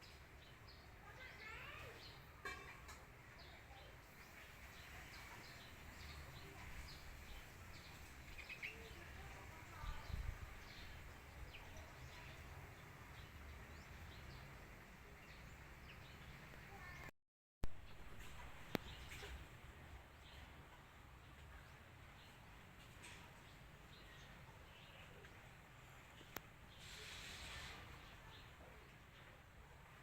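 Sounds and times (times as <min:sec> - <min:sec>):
low outdoor background: 0:00.0 - 0:30.0.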